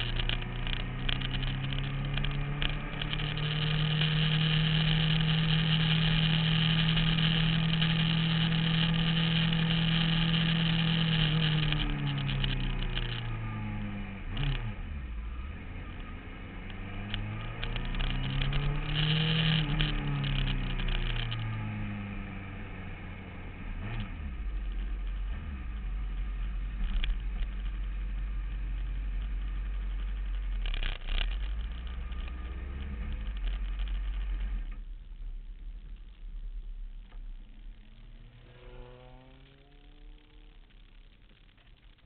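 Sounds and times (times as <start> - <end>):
motorcycle engine revving: 0.0 - 34.9, 37.2 - 42.0.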